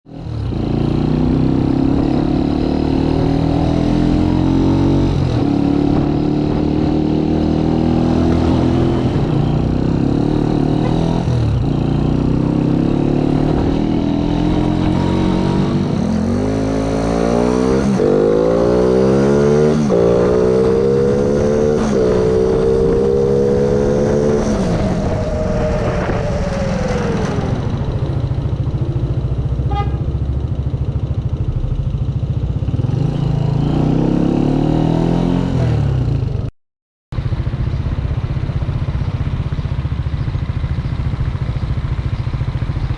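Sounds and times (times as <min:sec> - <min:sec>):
motorcycle engine shifting gears: 0:00.1 - 0:36.5, 0:37.2 - 0:42.9.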